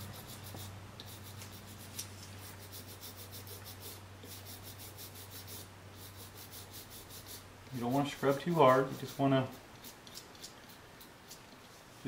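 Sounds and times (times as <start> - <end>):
low steady hum: 0.0 - 12.0
small brush scrubbing: 0.0 - 12.0.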